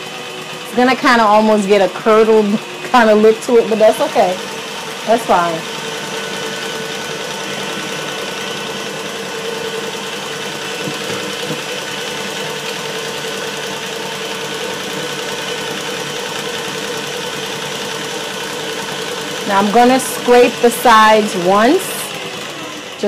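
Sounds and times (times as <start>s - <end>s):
beater whipping batter in steel bowl: 0.0s - 23.0s
stand mixer running: 0.0s - 23.0s.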